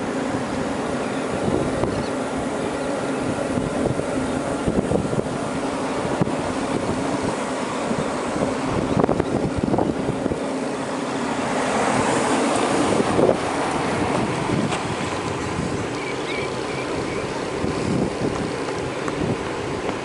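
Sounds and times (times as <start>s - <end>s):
ocean surf rushing: 0.0s - 20.0s
wind buffeting microphone: 0.0s - 20.0s.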